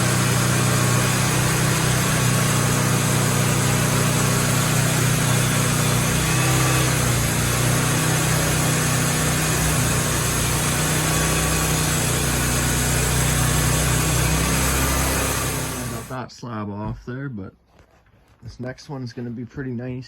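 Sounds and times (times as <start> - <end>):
saw blade cutting log: 0.0 - 16.2
sawmill engine running: 0.0 - 16.2.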